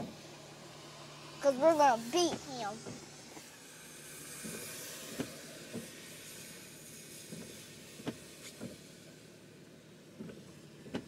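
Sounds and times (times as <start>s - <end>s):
car cabin road noise: 0.0s - 11.0s.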